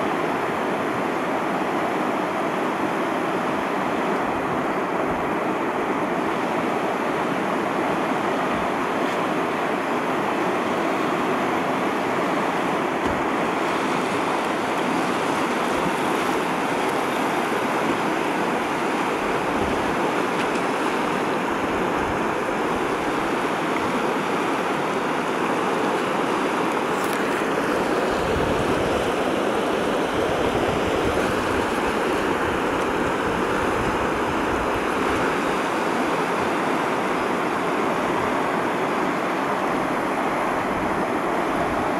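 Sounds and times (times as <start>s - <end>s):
river rapid rushing: 0.0s - 41.9s.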